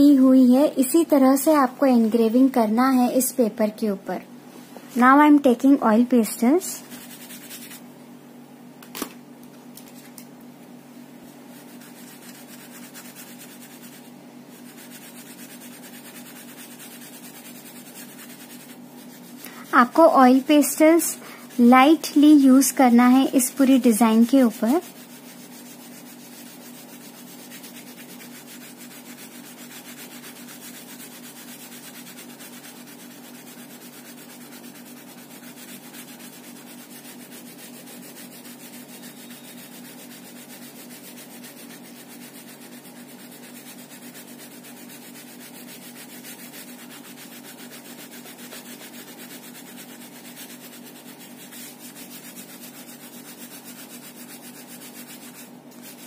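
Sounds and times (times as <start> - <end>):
steady low hum: 0.0 - 56.0
oil pastels rubbing on paper: 6.2 - 7.9, 11.3 - 56.0.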